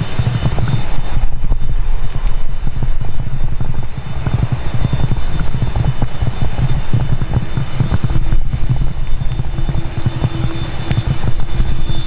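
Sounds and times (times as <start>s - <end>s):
jet engine whine: 0.0s - 12.0s
wind buffeting microphone: 0.0s - 12.0s.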